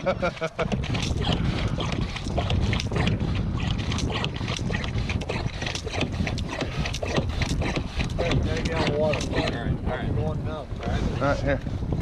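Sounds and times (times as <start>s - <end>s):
choppy water: 0.0s - 12.0s
wind buffeting microphone: 0.0s - 12.0s.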